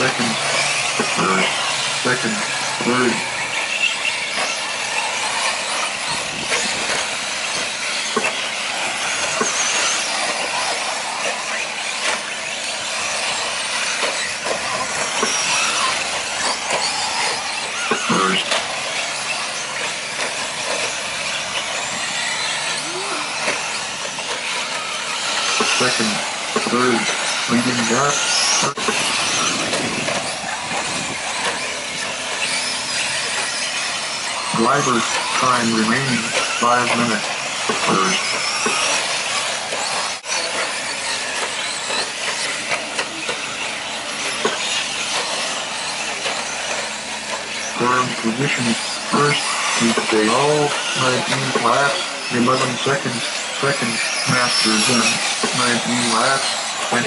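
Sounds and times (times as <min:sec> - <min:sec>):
high motor whines: 0:00.0 - 0:57.0
toy car motors hissing: 0:00.0 - 0:57.0.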